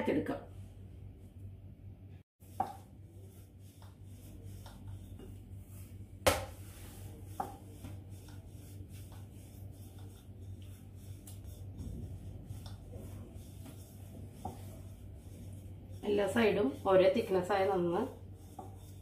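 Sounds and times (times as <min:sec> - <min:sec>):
low steady hum: 0:00.0 - 0:19.0
rolling pin rolling dough: 0:02.4 - 0:19.0.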